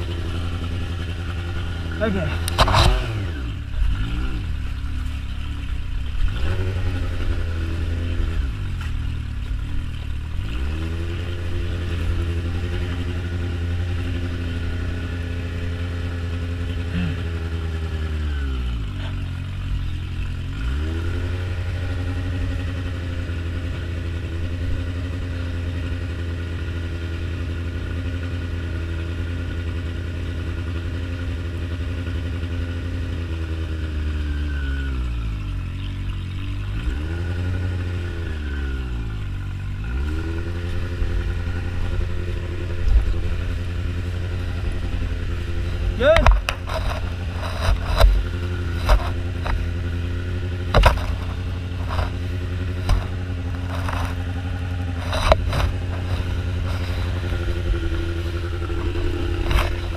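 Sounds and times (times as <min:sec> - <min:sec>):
motorcycle engine at low revs: 0:00.0 - 0:59.9.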